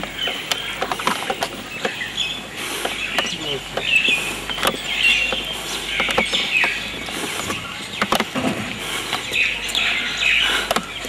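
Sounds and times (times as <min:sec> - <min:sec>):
sharp clicks: 0:00.0 - 0:08.4, 0:10.5 - 0:11.0
small birds chirping: 0:00.0 - 0:11.0.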